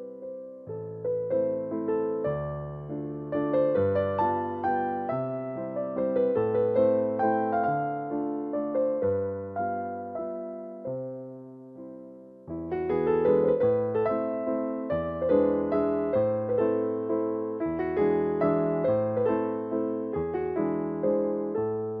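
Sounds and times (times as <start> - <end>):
keyboard playing gentle chords: 0.0 - 22.0.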